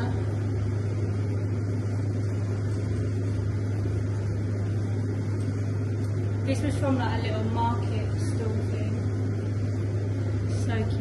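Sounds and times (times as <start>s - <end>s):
faint rumbling: 0.0s - 11.0s
steady low hum: 0.0s - 11.0s.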